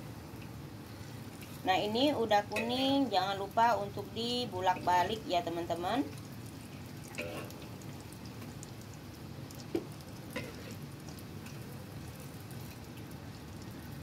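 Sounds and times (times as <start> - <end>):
fritters sizzling in oil: 0.0 - 14.0.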